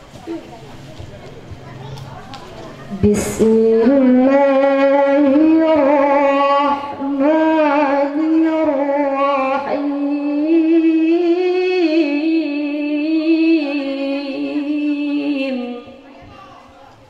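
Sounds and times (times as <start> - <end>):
woman reciting melodically: 2.9 - 16.7.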